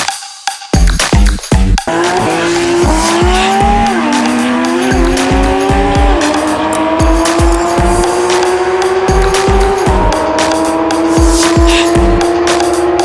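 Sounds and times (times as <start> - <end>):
electronic dance music beat: 0.0 - 13.0
car engines accelerating hard: 1.9 - 13.0.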